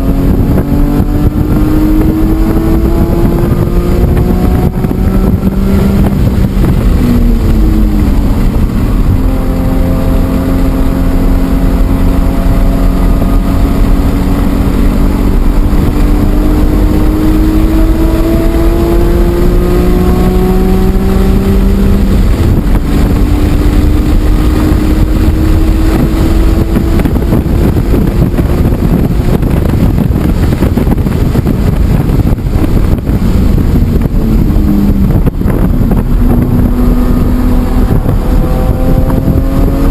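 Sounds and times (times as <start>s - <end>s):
car engine under load: 0.0s - 39.9s
wind and road noise: 0.0s - 39.9s.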